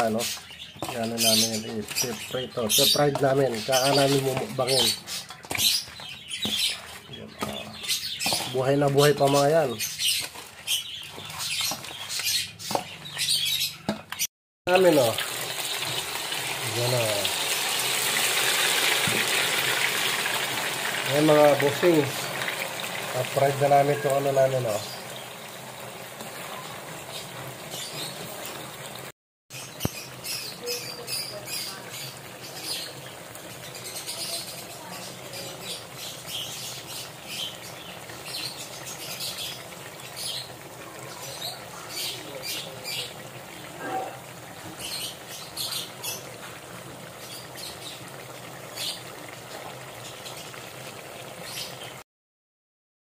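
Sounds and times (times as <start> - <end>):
crabs deep-frying in oil: 0.0 - 14.0, 14.7 - 52.0
oil crackling and popping: 0.0 - 52.0.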